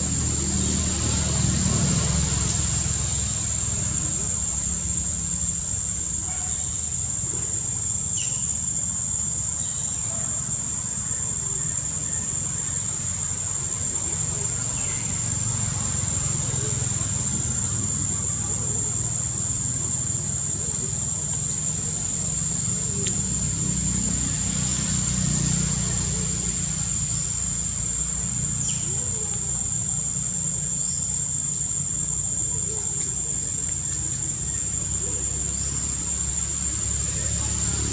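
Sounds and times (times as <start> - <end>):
insects droning: 0.0 - 37.9.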